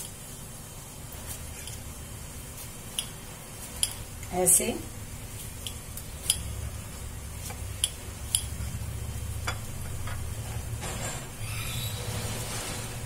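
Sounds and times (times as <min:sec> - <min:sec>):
patties sizzling in oil: 0:00.0 - 0:13.0.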